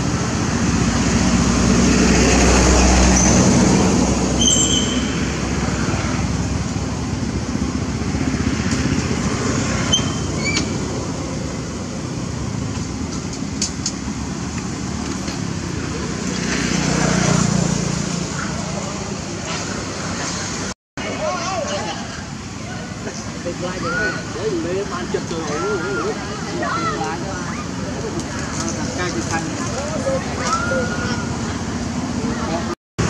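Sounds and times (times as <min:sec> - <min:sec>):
low traffic rumble: 0:00.0 - 0:32.8.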